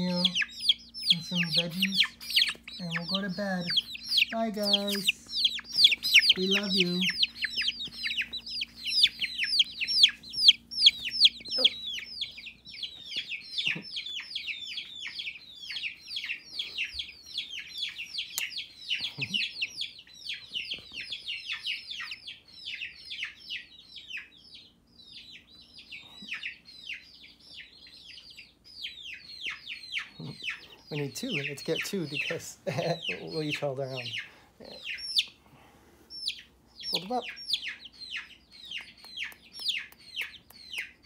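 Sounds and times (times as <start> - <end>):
baby chicks peeping: 0.0 - 41.0.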